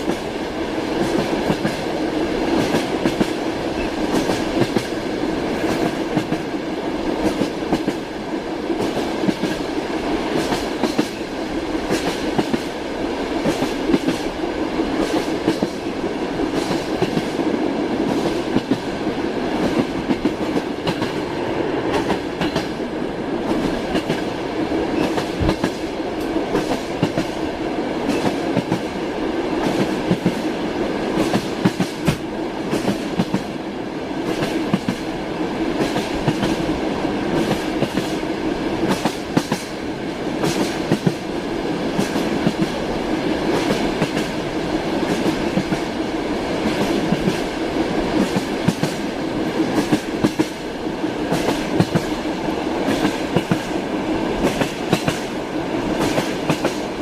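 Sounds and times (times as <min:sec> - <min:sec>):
train wheels clattering over rails: 0:00.0 - 0:33.6, 0:34.2 - 0:57.0.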